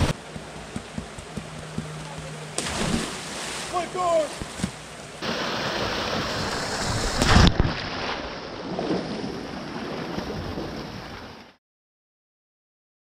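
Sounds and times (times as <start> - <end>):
creek water rushing: 0.0 - 11.4.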